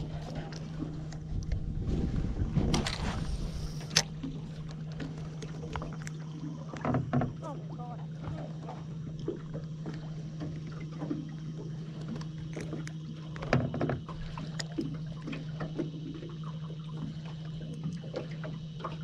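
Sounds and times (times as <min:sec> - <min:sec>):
small ticks on boat: 0:00.0 - 0:01.8, 0:02.7 - 0:19.0
light water sounds: 0:00.0 - 0:19.0
trolling motor humming: 0:00.0 - 0:19.0.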